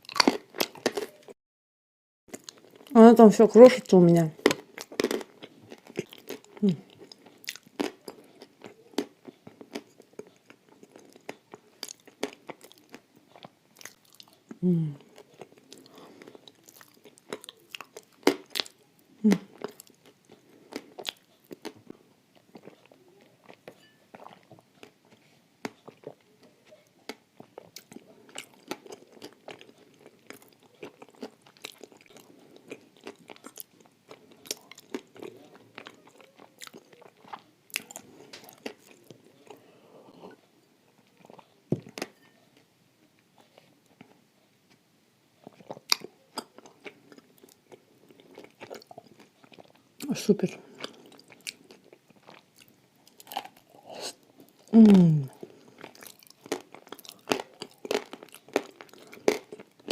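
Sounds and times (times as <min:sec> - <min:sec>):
crunching and chewing clay: 0:00.0 - 0:01.3, 0:02.3 - 0:03.0, 0:04.4 - 0:39.6, 0:45.4 - 0:59.9.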